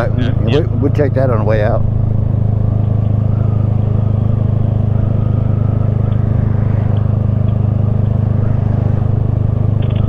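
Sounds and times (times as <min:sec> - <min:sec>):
motorcycle engine droning: 0:00.0 - 0:10.0.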